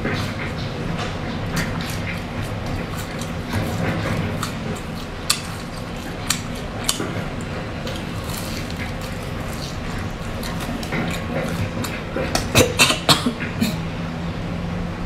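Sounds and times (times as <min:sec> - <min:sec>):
low steady hum: 0:00.0 - 0:15.0
chewing crunchy snack: 0:00.1 - 0:13.6.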